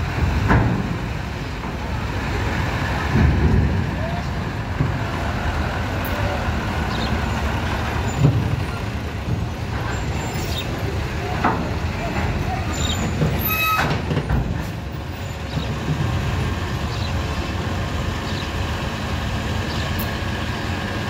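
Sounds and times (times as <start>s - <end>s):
truck engine driving past: 0.0s - 21.0s.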